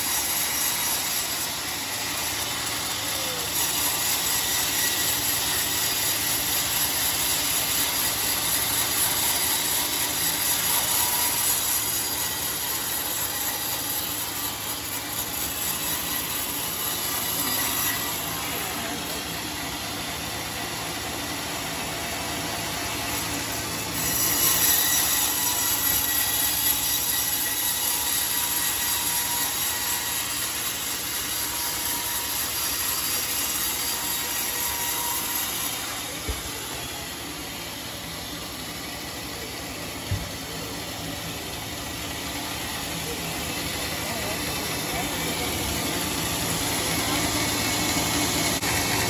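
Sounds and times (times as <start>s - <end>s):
circular saw cutting log: 0.0s - 49.0s.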